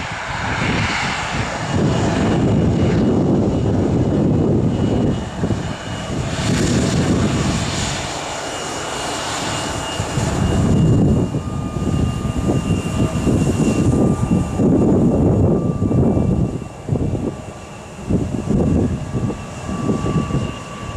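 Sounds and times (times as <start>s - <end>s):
airliner engines rumbling: 0.0s - 20.9s
jet engine whine: 0.0s - 20.9s.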